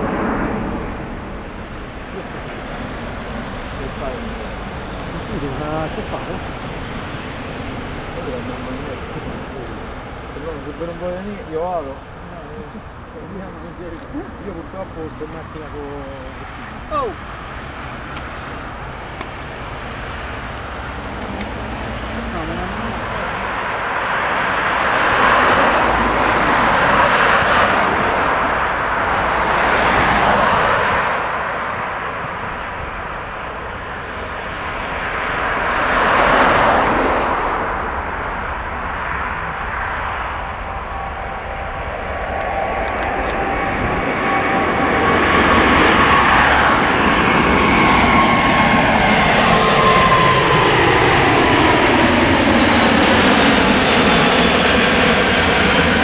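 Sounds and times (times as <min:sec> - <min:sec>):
jet airliner passing: 0:00.0 - 0:56.0
rushing noise: 0:00.0 - 0:56.0.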